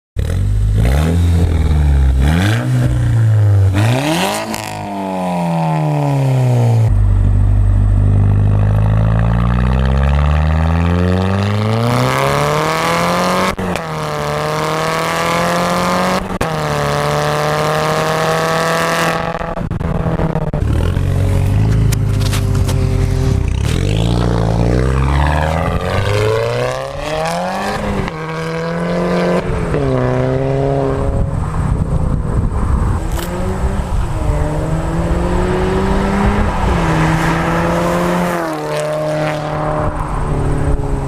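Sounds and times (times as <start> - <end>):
car engine revving: 0.2 - 41.0.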